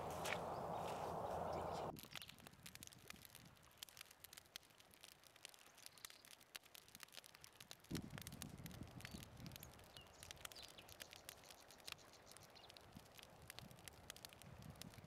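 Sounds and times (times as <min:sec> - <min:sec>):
faint crackles and ticks: 0:00.0 - 0:15.0.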